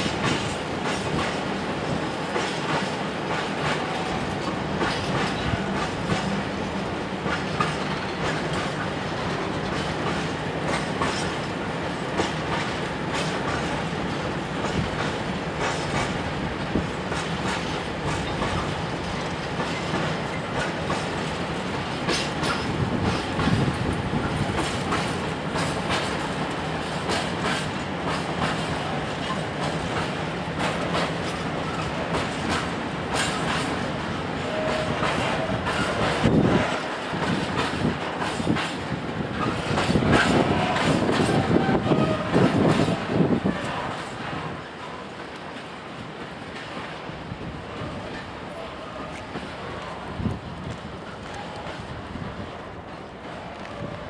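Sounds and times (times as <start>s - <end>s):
wheels clicking over rail joints: 0.0s - 11.6s, 12.2s - 47.2s
train wheels rolling on rails: 0.0s - 54.0s.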